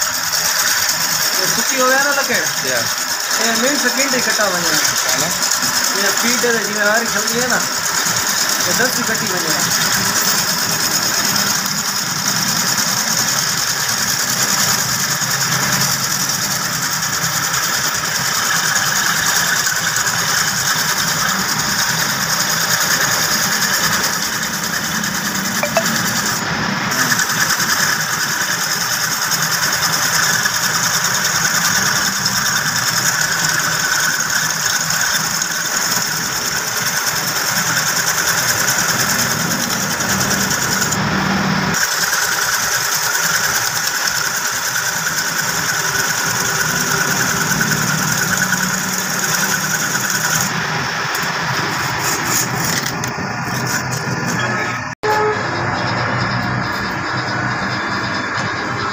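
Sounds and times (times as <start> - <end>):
hacksaw blade scraping spinning wood: 0.0 - 41.0, 41.7 - 55.3
lathe motor hum: 0.0 - 58.9.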